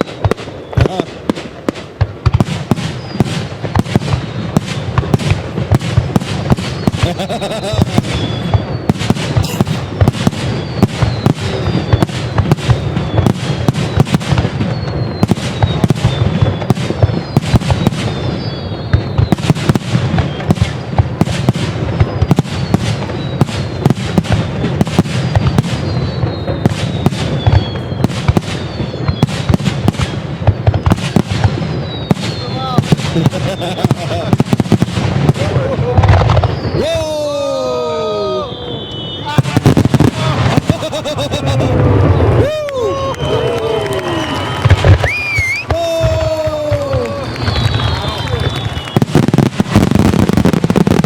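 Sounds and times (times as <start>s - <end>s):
falling firework whistles: 0.0s - 51.0s
fireworks bursting and crackling: 0.0s - 51.0s.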